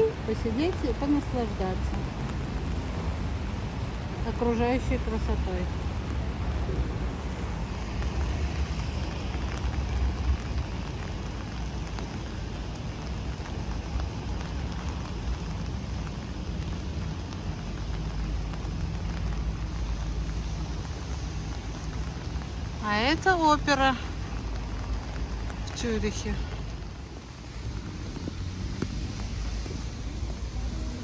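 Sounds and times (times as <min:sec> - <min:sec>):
rain on wet paving: 0:00.0 - 0:31.0.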